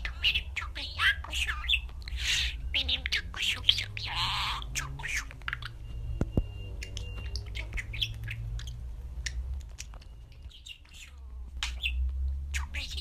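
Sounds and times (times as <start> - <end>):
budgerigar chirping and squawking: 0.0 - 5.9, 6.7 - 13.0
low steady hum: 0.0 - 13.0.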